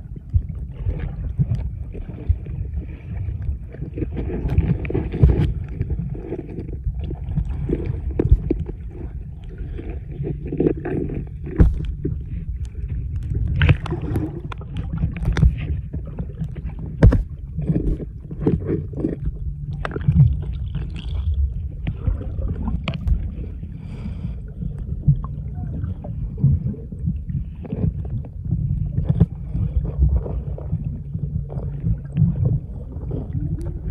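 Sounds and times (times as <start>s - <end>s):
muffled underwater rumble: 0.0s - 33.9s.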